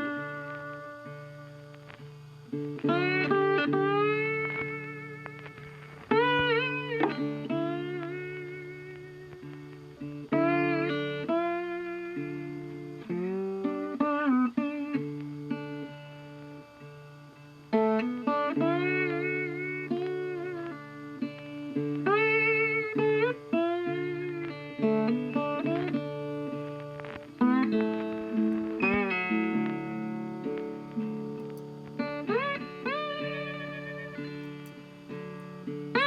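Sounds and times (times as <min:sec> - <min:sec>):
plucked guitar with sliding notes: 0:00.0 - 0:36.0.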